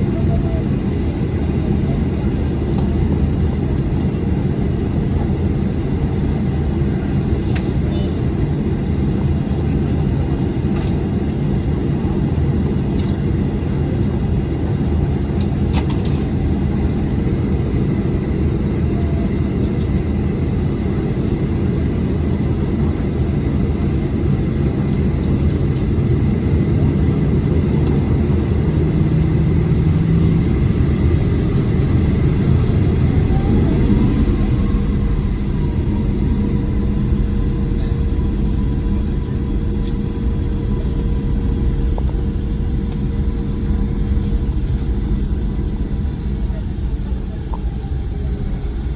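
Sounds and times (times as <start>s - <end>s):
jet engine whine: 0.0s - 48.9s
jet engines rumbling in cabin: 0.0s - 48.9s.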